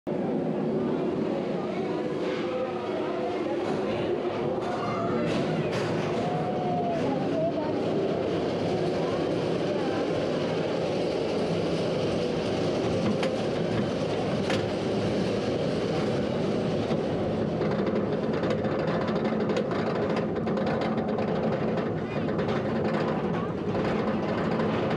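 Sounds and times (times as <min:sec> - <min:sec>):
roller coaster train rumbling: 0:00.1 - 0:24.9.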